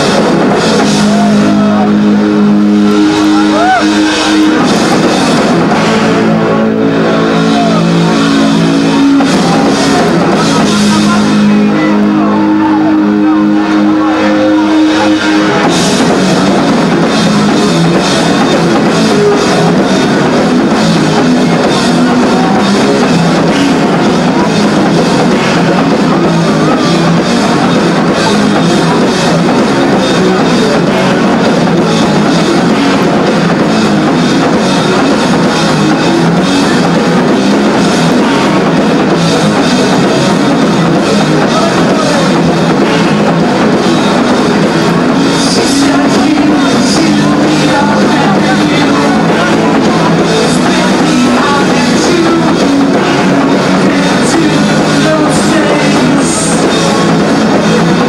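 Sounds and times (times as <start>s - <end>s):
drums pounding: 0.0s - 58.0s
rock band playing live: 0.0s - 58.0s.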